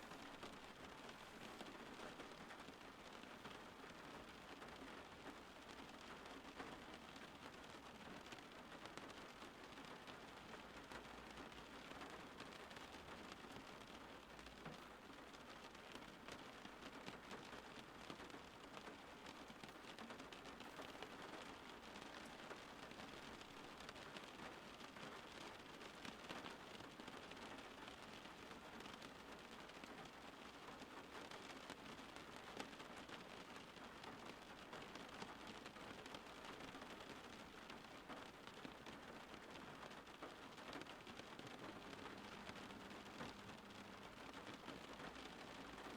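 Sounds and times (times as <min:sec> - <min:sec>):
faint rain falling: 0:00.0 - 0:45.9.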